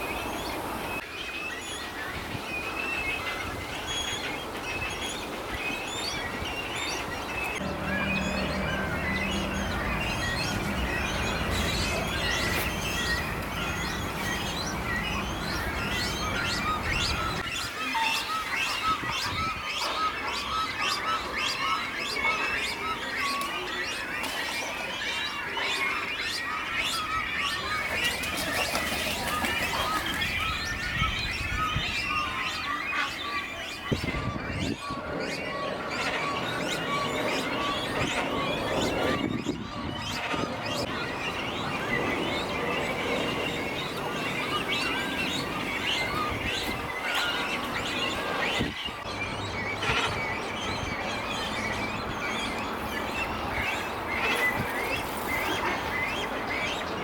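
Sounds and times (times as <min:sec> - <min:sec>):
small birds chirping: 0:02.6 - 0:57.0.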